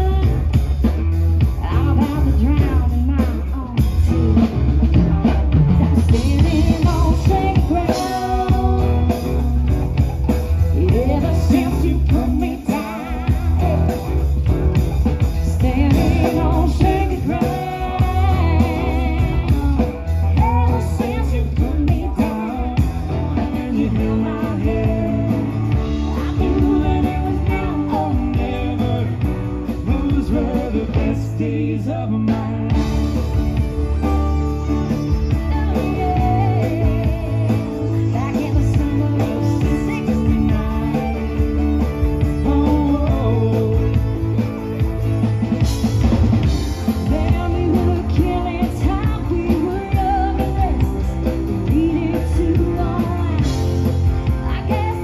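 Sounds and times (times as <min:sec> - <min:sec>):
woman singing: 0:00.0 - 0:05.0, 0:05.7 - 0:09.8, 0:10.6 - 0:14.2, 0:15.4 - 0:33.5, 0:34.8 - 0:44.4, 0:46.8 - 0:55.0
rock band playing: 0:00.0 - 0:55.0.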